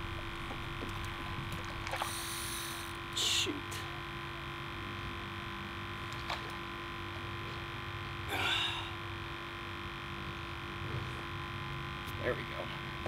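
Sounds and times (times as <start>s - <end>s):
steady electric hum: 0.0s - 13.0s.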